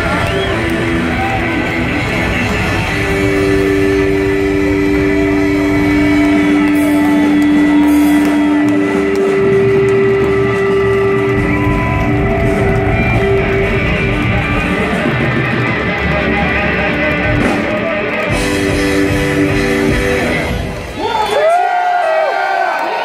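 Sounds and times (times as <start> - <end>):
electric guitar held notes: 0.0 - 20.9
blues-rock band through pa: 0.0 - 21.0
crowd cheering and whooping: 0.0 - 23.0.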